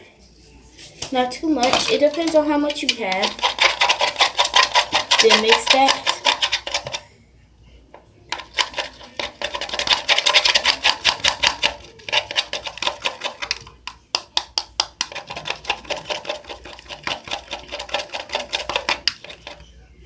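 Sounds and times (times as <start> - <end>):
utensil stirring in a bowl: 0.8 - 7.3, 8.3 - 20.0.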